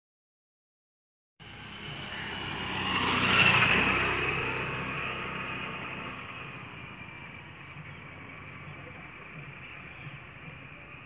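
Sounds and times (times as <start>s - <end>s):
motorcycle passing: 1.4s - 11.0s.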